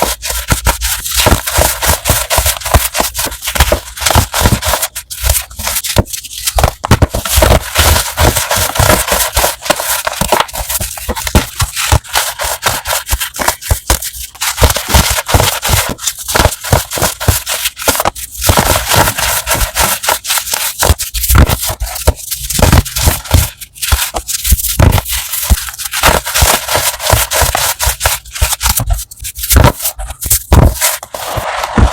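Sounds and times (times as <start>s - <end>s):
chalk crunching: 0.0s - 31.9s.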